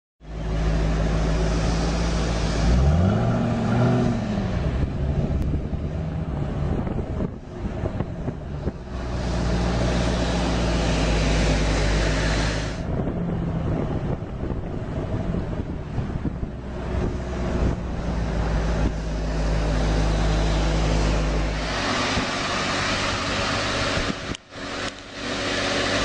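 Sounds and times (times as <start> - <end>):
car engine hum and hiss: 0.2 - 26.0
engine revving: 0.3 - 26.0.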